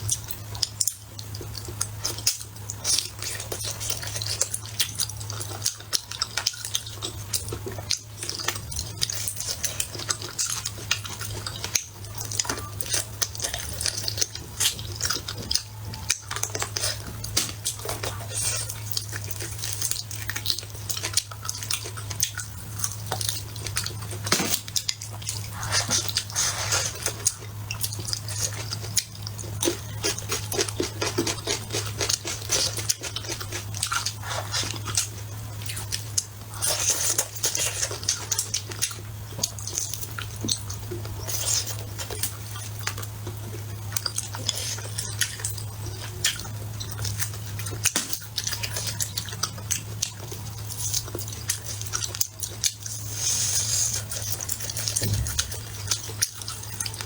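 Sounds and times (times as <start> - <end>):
chewing and crunching: 0.0 - 57.0
steady low hum: 0.0 - 57.0.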